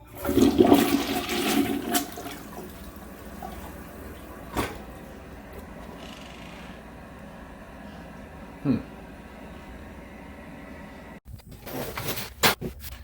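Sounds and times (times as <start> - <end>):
toilet flushing: 0.0 - 11.2.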